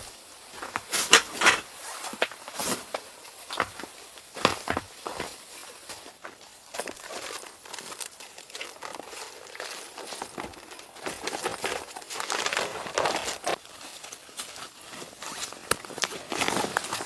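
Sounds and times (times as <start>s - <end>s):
crunching and rustling: 0.0s - 17.0s.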